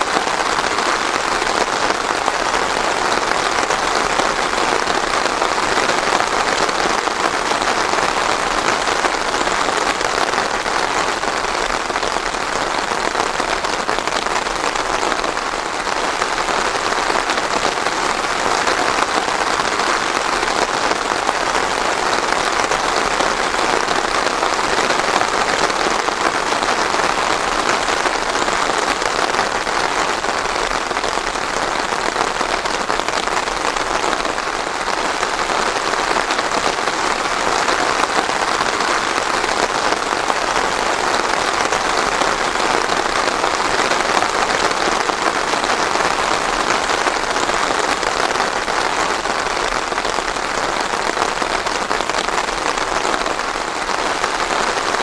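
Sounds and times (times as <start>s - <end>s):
heavy rain on a surface: 0.0s - 55.0s.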